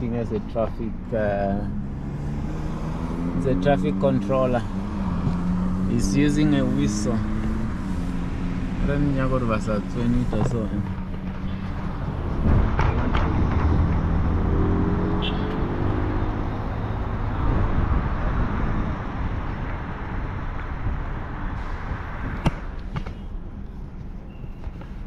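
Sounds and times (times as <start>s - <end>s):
car engines running: 0.0s - 24.9s.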